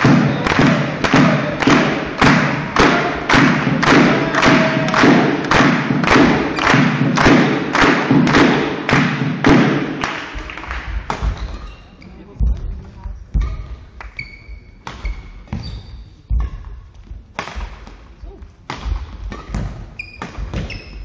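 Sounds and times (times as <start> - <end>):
spectators beating echoing thuds: 0.0 - 11.7, 12.3 - 14.0, 14.8 - 21.0.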